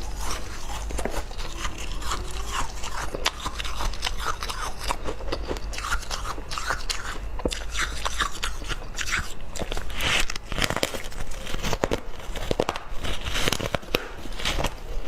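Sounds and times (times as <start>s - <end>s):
ice crunching while chewed: 0.0s - 15.0s.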